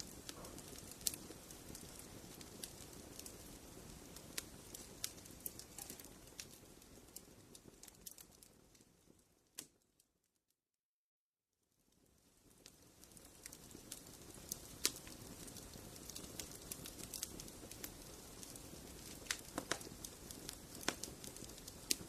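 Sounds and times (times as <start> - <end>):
sharp pops of fire: 0.0 - 8.9, 12.4 - 22.0
wood fire crackling: 0.0 - 9.9, 11.8 - 22.0.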